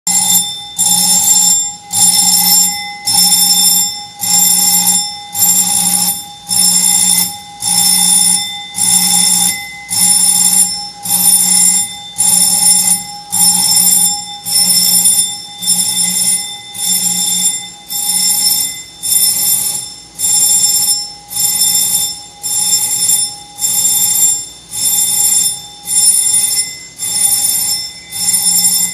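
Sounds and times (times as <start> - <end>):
alarm ringing in pulses: 0.1 - 28.9.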